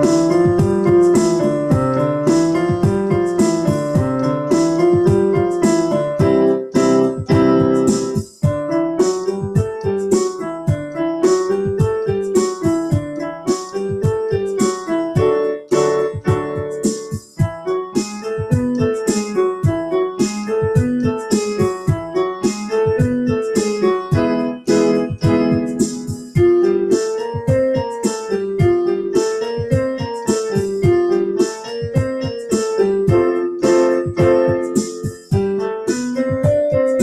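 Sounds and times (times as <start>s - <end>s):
electronic keyboard piano voice: 0.0s - 37.0s.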